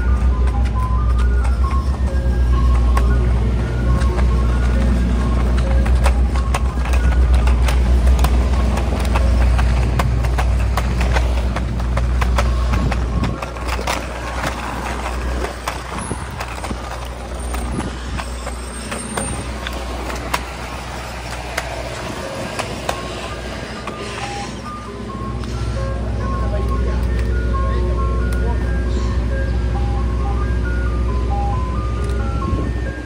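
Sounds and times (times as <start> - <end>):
ice cream truck jingle: 0.0 - 33.0
truck engine rumble: 0.0 - 33.0.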